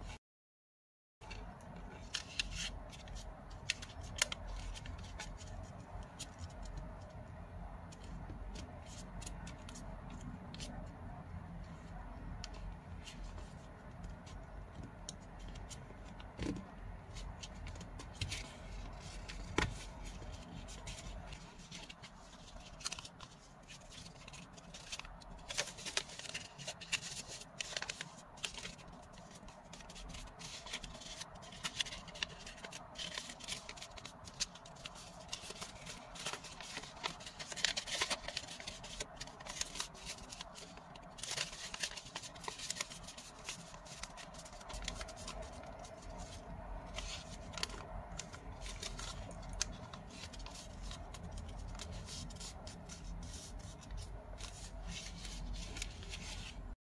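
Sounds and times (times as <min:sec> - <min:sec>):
paper crinkling and rustling: 0:01.2 - 0:07.2, 0:11.7 - 0:56.8.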